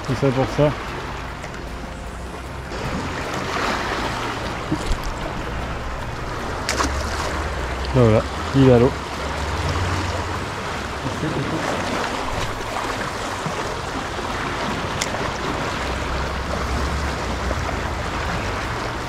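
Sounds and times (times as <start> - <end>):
waves lapping over rocks: 0.0 - 19.0.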